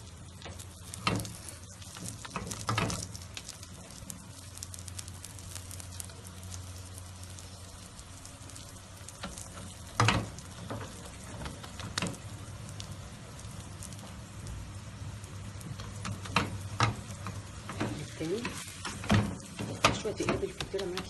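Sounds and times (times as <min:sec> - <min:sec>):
pastry sizzling in oil: 0:00.0 - 0:21.0.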